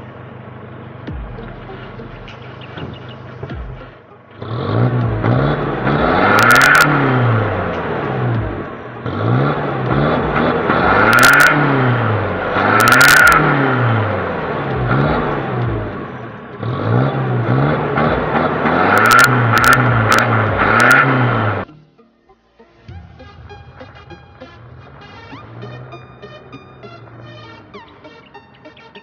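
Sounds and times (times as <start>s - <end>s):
truck engine revving: 0.0s - 22.0s, 22.8s - 29.0s.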